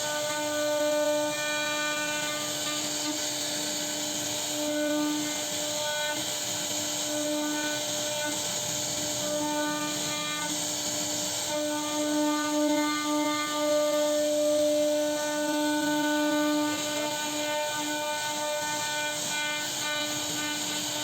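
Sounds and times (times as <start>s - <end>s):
cutting bit hissing: 0.0s - 21.0s
router spindle whine: 0.0s - 21.0s.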